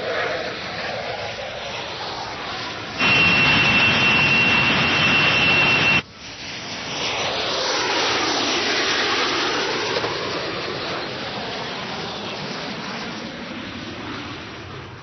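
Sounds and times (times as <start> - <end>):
fighter jet afterburner roar: 0.0 - 15.0.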